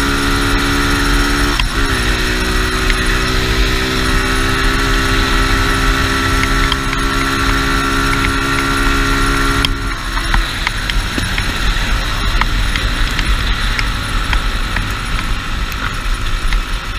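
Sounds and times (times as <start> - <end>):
dirt bike engine at high revs: 0.0 - 16.9
wind rumble on microphone: 0.0 - 16.9.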